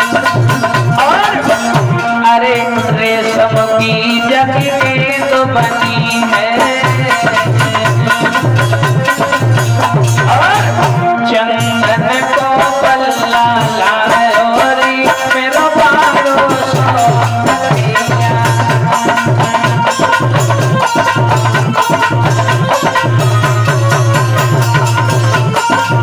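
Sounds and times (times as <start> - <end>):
hand drum beat: 0.0 - 26.0.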